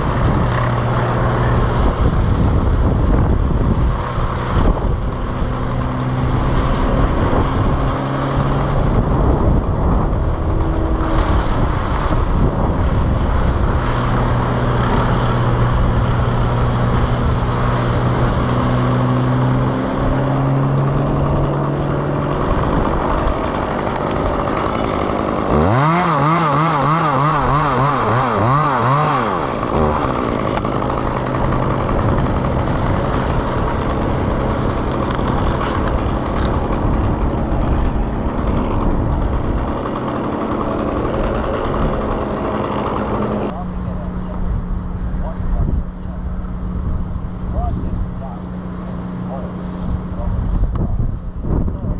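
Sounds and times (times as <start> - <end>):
wind buffeting microphone: 0.0 - 25.9, 29.2 - 51.9
chainsaw revving: 0.0 - 45.6
steady engine hum: 0.0 - 51.9.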